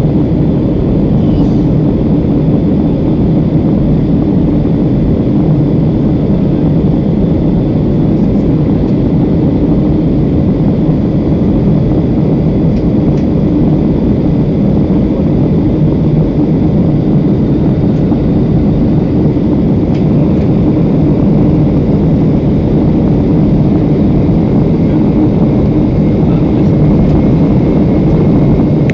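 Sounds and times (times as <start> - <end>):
airliner cabin engine rumble: 0.0 - 28.9.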